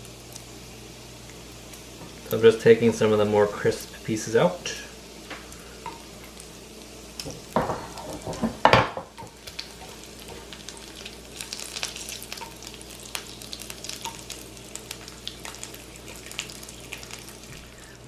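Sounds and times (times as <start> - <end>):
bacon sizzling in a pan: 0.0 - 18.0.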